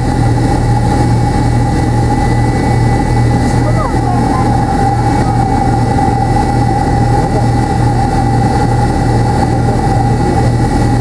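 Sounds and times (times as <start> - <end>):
aircraft cabin engine hum: 0.0 - 11.0.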